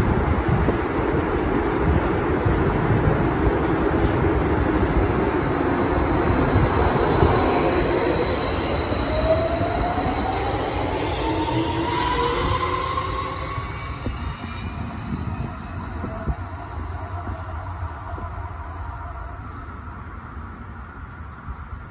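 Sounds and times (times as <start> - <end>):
wheels rumbling on rail: 0.0 - 21.9.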